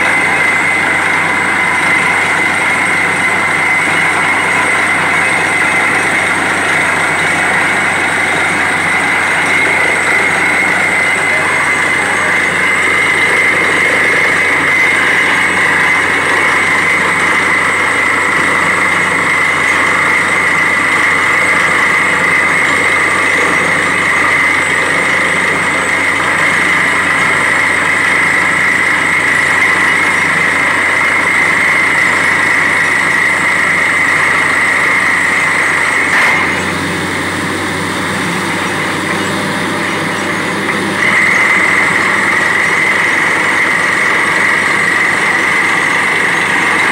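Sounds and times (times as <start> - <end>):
drilling rig running: 0.0 - 46.9
high steady whine: 0.0 - 46.9.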